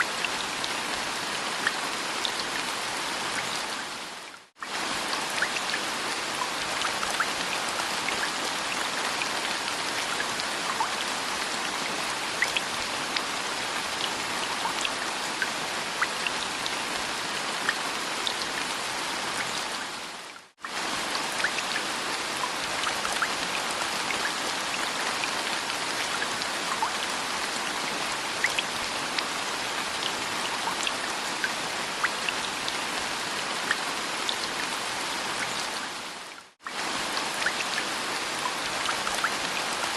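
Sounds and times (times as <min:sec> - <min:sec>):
rain drops pattering: 0:00.1 - 0:39.9.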